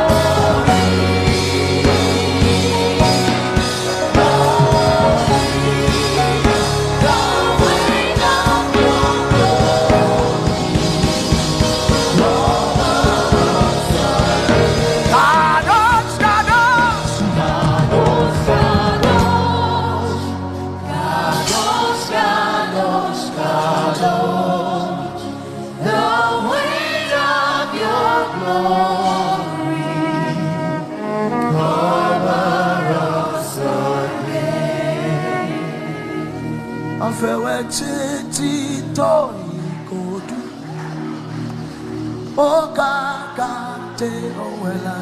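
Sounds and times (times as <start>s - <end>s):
band playing: 0.0s - 44.9s
voices singing: 0.0s - 45.0s.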